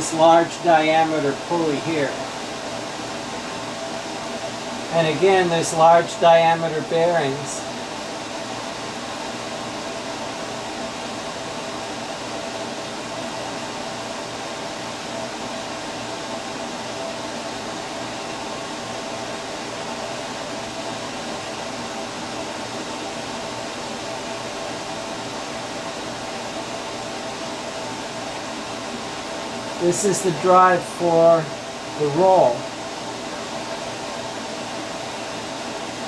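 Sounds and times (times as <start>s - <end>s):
fan whirring: 0.0s - 36.0s.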